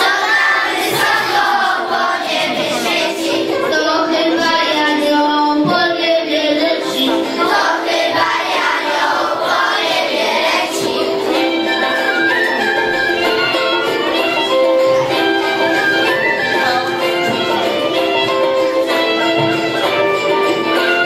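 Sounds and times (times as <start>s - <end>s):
children singing in unison: 0.0s - 13.9s, 14.9s - 18.6s.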